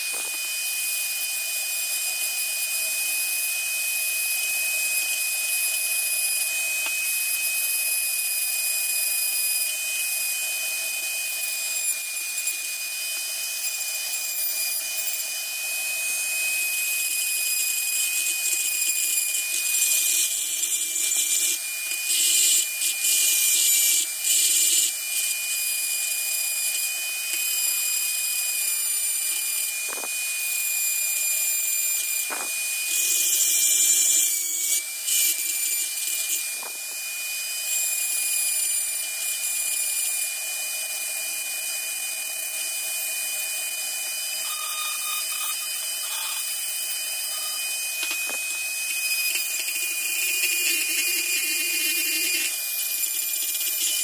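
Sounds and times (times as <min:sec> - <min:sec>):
rotary tool grinding steel: 0:00.0 - 0:54.0.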